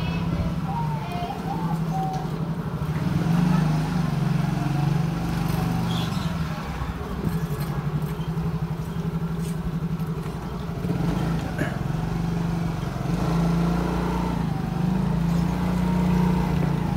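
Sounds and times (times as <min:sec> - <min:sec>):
motorcycle engine running: 0:00.0 - 0:16.9
road and wind noise: 0:00.0 - 0:16.9.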